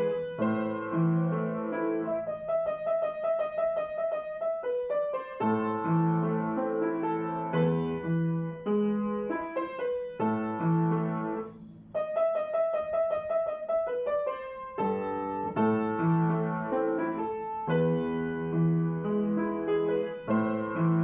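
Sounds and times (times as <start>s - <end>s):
solo piano chords: 0.0s - 21.0s.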